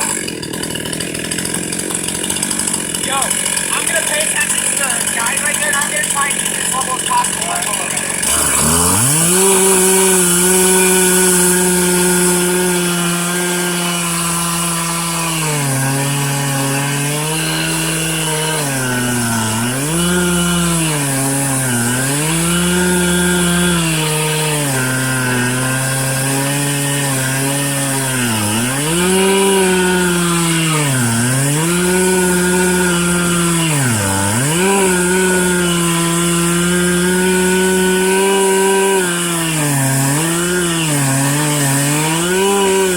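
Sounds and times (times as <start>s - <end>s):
chainsaw cutting through log: 0.0s - 42.9s.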